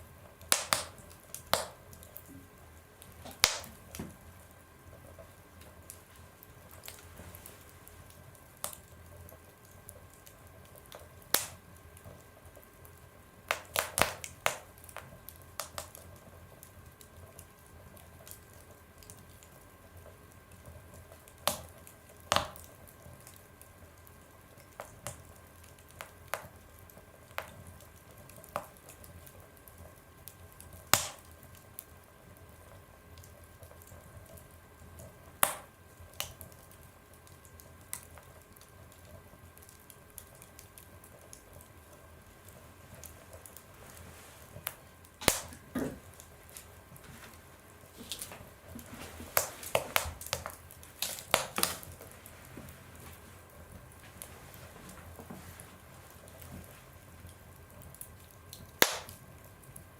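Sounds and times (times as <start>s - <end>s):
fire crackling in a stove: 0.0s - 59.9s
low steady hiss: 0.0s - 59.9s.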